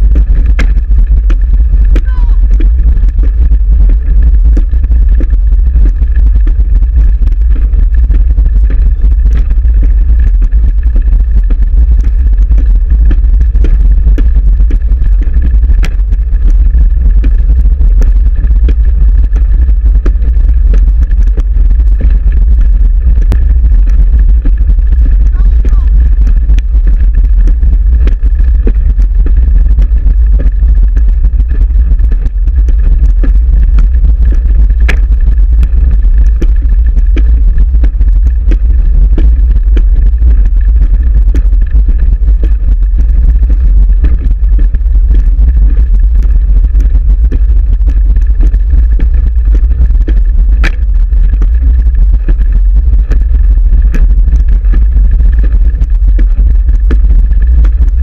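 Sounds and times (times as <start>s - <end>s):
heavy wind rumble: 0.0s - 58.0s.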